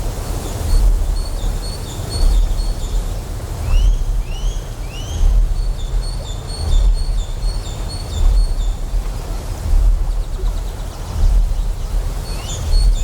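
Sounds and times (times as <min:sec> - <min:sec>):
steady noise wash: 0:00.0 - 0:13.0
deep generator hum: 0:02.2 - 0:13.0.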